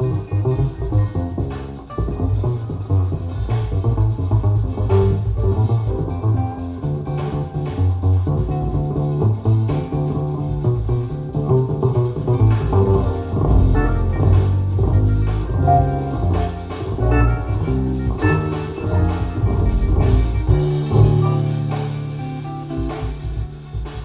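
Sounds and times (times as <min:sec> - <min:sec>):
bass line: 0:00.0 - 0:24.0
jazz or blues music: 0:00.0 - 0:24.0
plucked guitar: 0:00.0 - 0:24.0.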